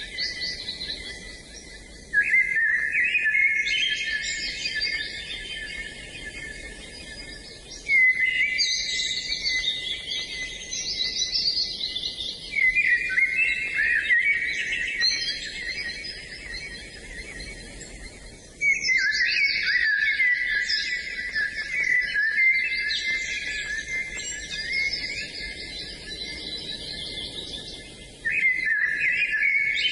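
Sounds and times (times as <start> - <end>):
songbirds singing: 0.0 - 29.9.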